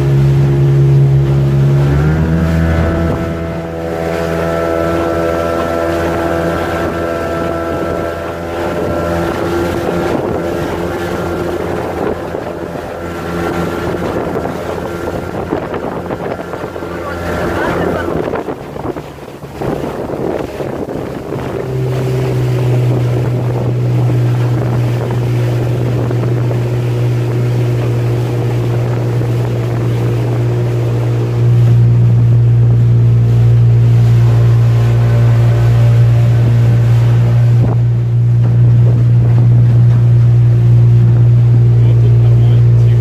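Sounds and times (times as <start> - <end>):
motorboat engine drone: 0.0 - 43.0.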